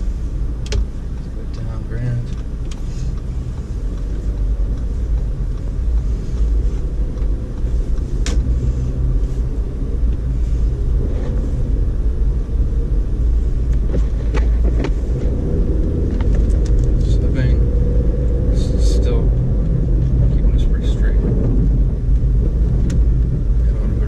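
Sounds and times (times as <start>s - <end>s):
car engine and tyres on snow: 0.0s - 24.0s.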